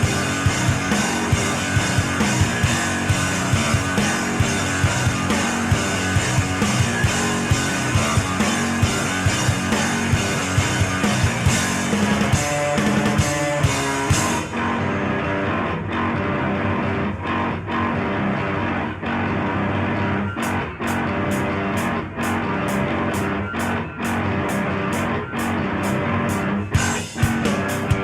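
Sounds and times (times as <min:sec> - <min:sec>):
guitar rock music: 0:00.0 - 0:28.0.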